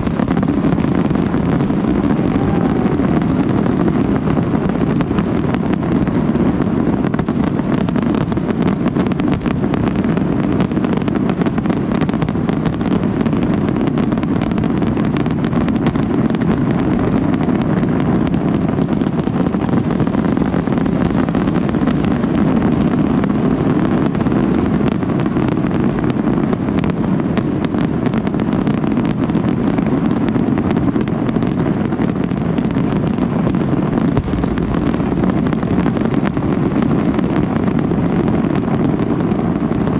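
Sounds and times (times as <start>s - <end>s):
fireworks bursts rumbling: 0.0s - 39.9s
fireworks cracks and pops: 0.0s - 39.9s.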